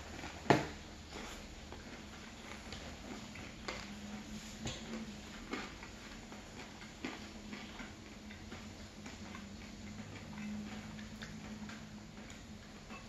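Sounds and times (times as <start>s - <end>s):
faint low hum: 0.0s - 13.0s
wet chewing: 0.0s - 13.0s.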